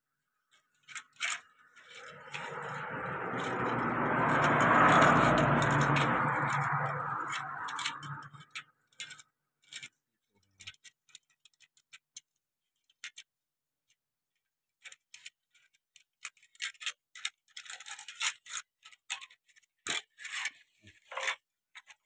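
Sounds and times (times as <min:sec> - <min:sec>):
metal clicking and scraping: 0:00.5 - 0:12.3, 0:14.8 - 0:22.0.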